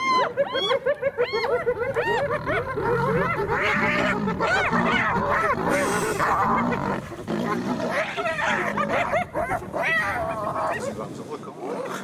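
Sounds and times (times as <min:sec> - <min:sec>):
hyenas giggling whoops: 0:00.0 - 0:10.9
hyenas growling and snarling: 0:01.2 - 0:12.0.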